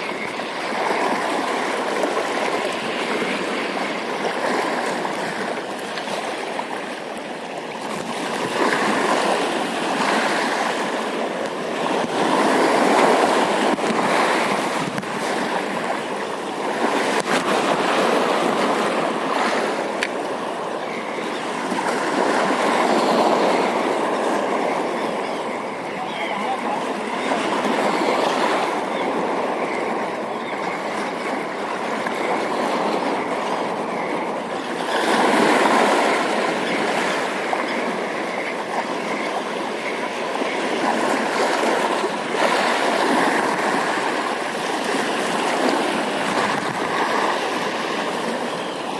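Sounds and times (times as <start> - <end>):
waves washing in: 0.0 - 48.9.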